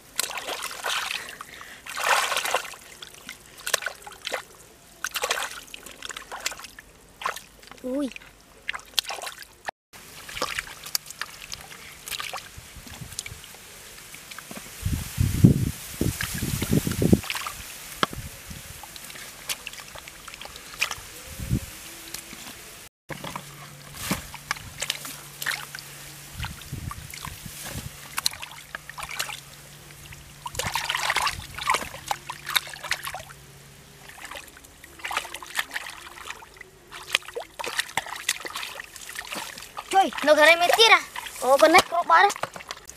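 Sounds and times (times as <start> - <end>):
hands splashing in muddy water: 0.0 - 7.8, 8.6 - 13.4, 18.8 - 21.3, 21.9 - 42.9.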